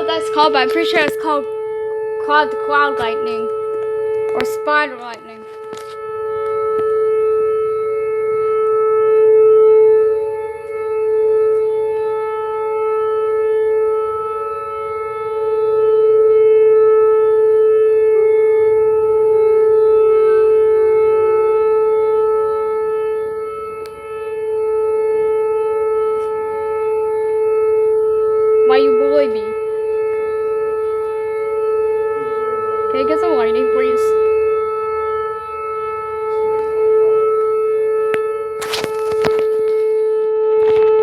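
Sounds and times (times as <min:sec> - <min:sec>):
warning siren steady tone: 0:00.0 - 0:41.0.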